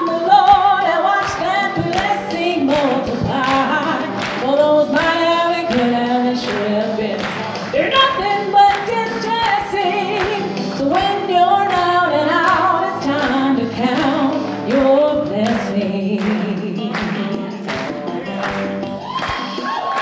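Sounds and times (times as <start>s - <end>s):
woman singing into microphone: 0.0s - 18.2s
instrumental music with beat: 0.0s - 20.0s.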